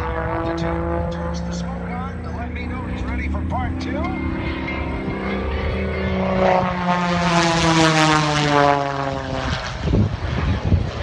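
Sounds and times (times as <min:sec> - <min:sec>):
low rumble: 0:00.0 - 0:11.0
propeller plane flying past: 0:00.0 - 0:11.0.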